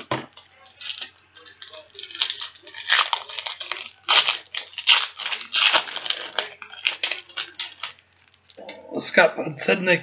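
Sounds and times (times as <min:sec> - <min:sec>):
trading cards rustling: 0:00.0 - 0:08.5.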